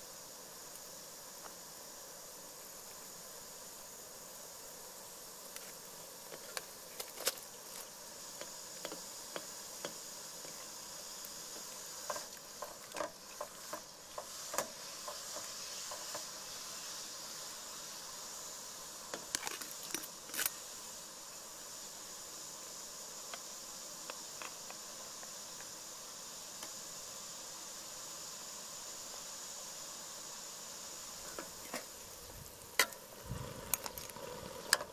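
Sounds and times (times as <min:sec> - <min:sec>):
steady high hiss: 0:00.0 - 0:34.9.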